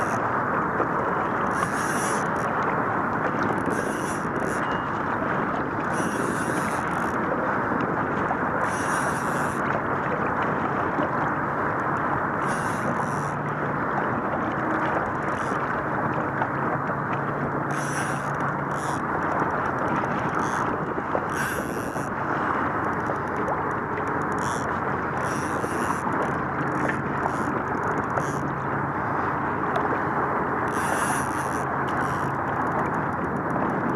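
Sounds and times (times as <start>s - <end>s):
water washing against boat: 0.0s - 33.9s
wind rush on microphone: 0.0s - 33.9s.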